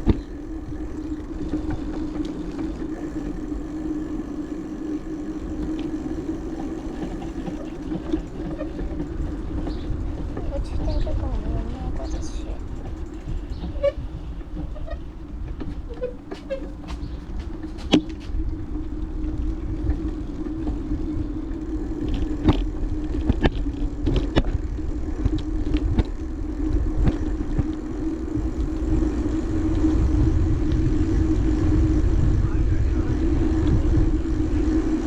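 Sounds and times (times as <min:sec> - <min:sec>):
bicycle tyres rolling: 0:00.0 - 0:35.0
bike clicks and rattles: 0:00.0 - 0:35.0
wind buffeting microphone: 0:00.0 - 0:35.0.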